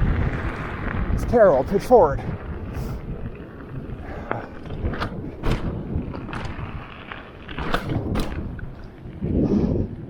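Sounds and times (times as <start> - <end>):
bike knocks and clacks: 0.0 - 9.4
bike tyres rumbling over dirt: 0.0 - 10.0.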